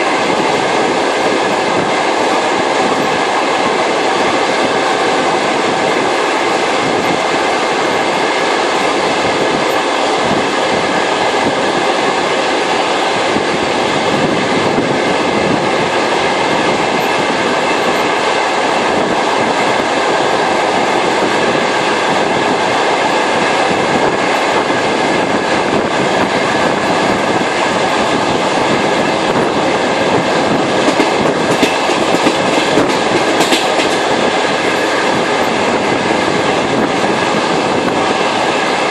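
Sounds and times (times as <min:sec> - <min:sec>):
train knocks: 0:00.0 - 0:38.9
train wheels rumbling on rails: 0:00.0 - 0:38.9.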